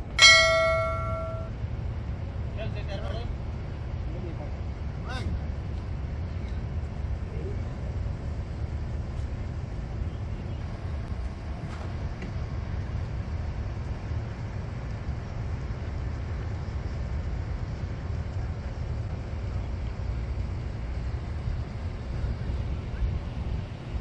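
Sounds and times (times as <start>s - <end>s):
low rumble of city ambience: 0.0s - 24.0s.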